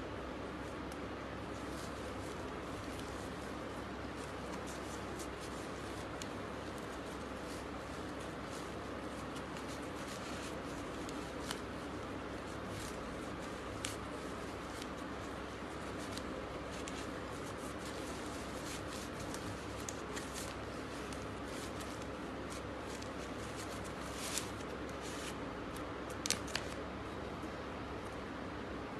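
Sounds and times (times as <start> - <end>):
umbrella canopy rustling: 0.5 - 26.8.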